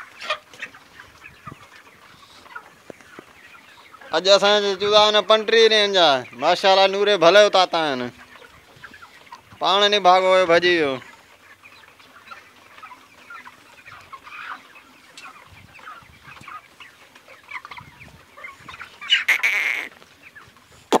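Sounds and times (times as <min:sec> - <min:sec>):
chickens clucking and peeping: 0:00.0 - 0:21.0.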